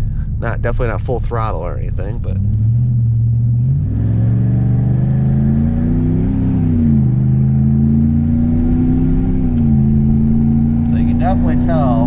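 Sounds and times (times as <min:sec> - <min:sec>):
engine accelerating with gear shifts: 0:00.3 - 0:12.0.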